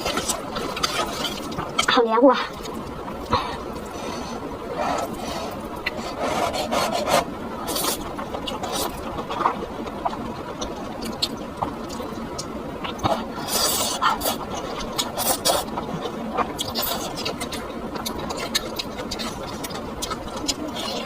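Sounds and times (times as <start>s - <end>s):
wet chewing and mouth smacking: 0.0s - 4.0s, 7.7s - 21.0s.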